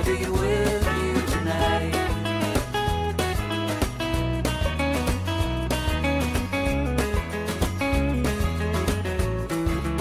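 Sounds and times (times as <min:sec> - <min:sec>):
pop song instrumental: 0:00.0 - 0:10.0.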